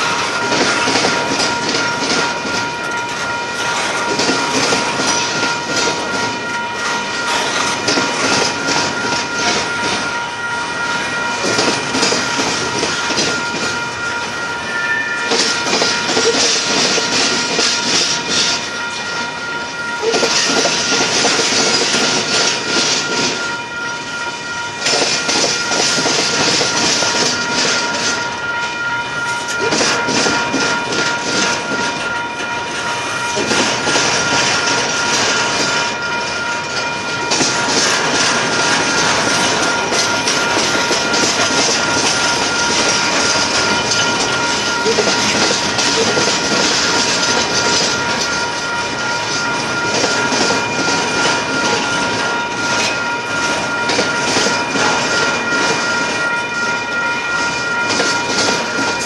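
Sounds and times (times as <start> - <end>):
wheels clacking over rail joints: 0.0 - 10.2, 10.9 - 14.4, 15.2 - 59.0
train wheels rumbling and rattling: 0.0 - 59.0.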